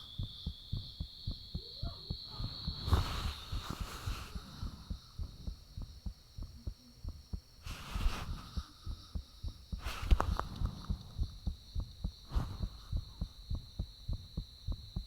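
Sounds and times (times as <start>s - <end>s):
faint high-pitched whine: 0.0s - 15.0s
heartbeat thumps: 0.0s - 15.0s.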